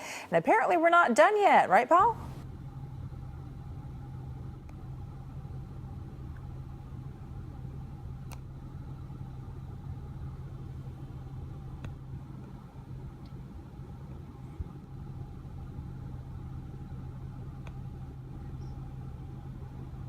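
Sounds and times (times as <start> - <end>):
car engine idling: 2.2 - 20.0.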